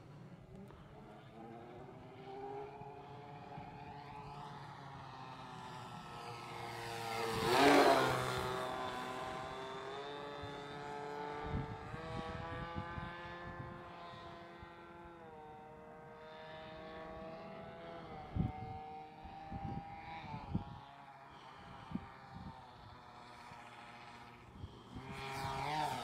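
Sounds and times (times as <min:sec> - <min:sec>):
model plane engine: 0:00.0 - 0:26.0.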